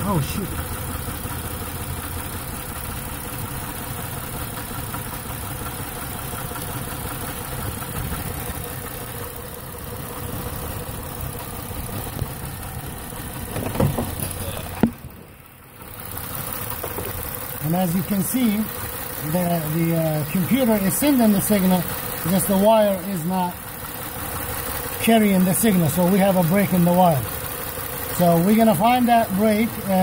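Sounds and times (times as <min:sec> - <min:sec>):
car engine idling with misfire: 0:00.0 - 0:30.0.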